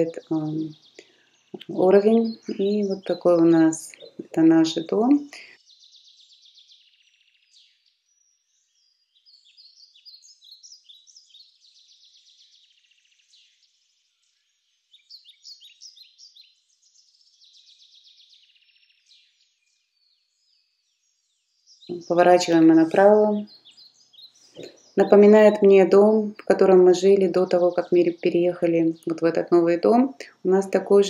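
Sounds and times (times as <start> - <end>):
faint high bird chirping: 0.0 - 31.0.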